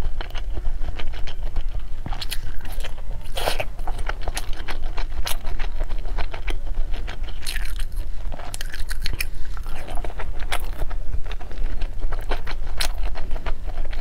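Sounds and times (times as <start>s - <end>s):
close chewing with wet crunches: 0.2s - 14.0s.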